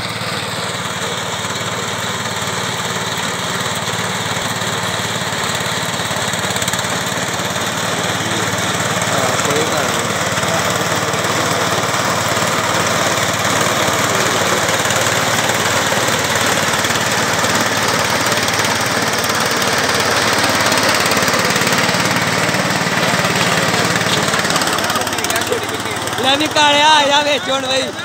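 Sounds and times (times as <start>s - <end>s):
ride-on mower engine running: 0.0s - 28.0s.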